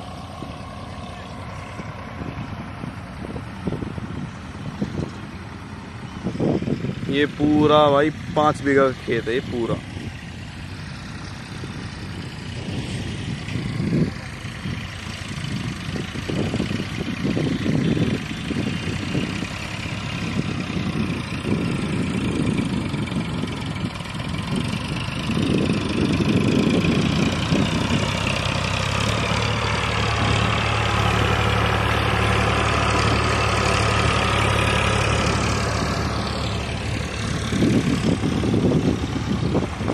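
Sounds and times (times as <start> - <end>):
diesel tractor engine under load: 0.0 - 39.9
wind buffeting microphone: 0.0 - 39.9.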